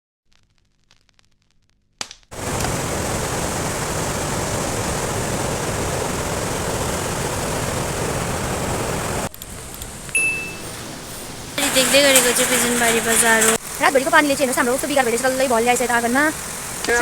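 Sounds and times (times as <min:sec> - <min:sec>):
heavy rain rushing: 0:02.3 - 0:17.0.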